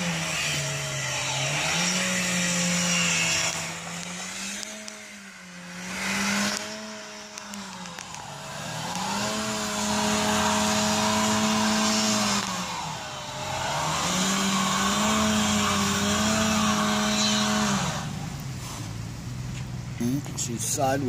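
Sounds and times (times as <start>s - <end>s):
car engine revving high: 0.0s - 18.4s.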